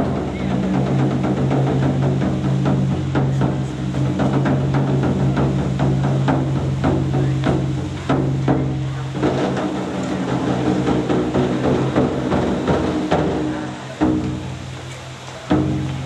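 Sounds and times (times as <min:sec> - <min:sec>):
taiko drum strikes: 0:00.0 - 0:16.0.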